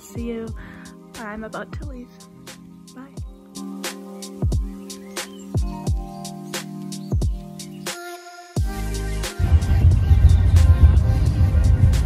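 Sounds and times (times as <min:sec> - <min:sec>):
faint music: 0:00.0 - 0:12.0.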